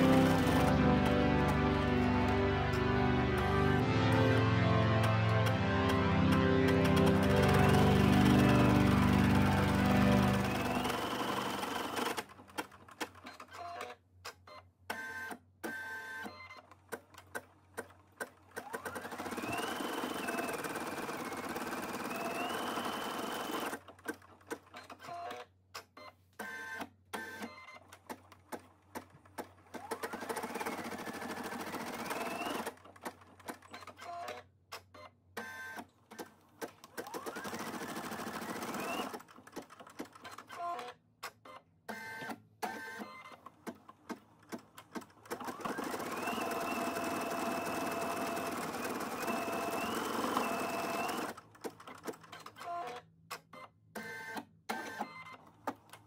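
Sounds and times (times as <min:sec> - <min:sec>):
embroidery machine stitching: 0:00.0 - 0:04.4, 0:05.0 - 0:14.0, 0:14.9 - 0:25.5, 0:26.4 - 0:34.4, 0:35.4 - 0:40.9, 0:41.9 - 0:53.0.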